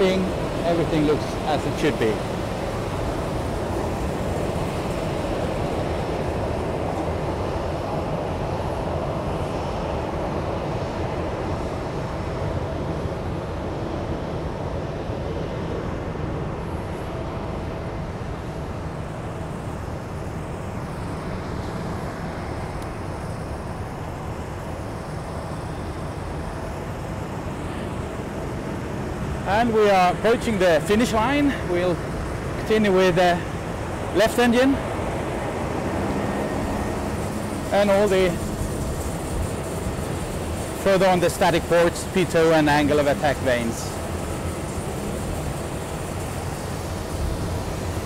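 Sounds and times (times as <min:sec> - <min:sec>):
aircraft and ground equipment rumble: 0:00.0 - 0:48.0
faint steady whine: 0:00.0 - 0:48.0.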